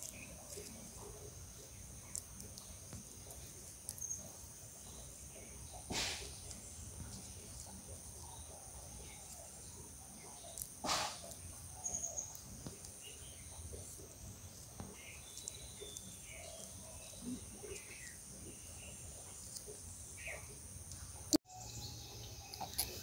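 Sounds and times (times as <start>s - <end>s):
bird chirps: 0.0s - 20.6s.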